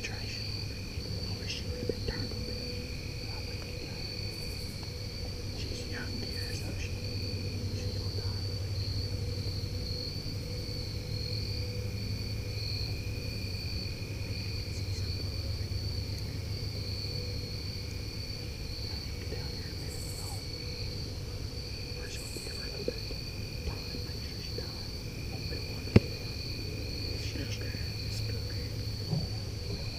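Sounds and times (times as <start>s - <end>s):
constant low rumble: 0.0s - 29.9s
crickets trilling: 0.0s - 29.9s.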